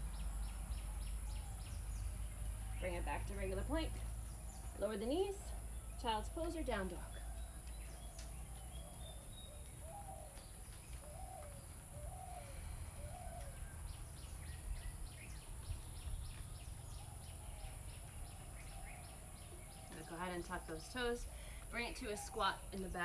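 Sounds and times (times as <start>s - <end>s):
low bird calls: 0.0s - 22.9s.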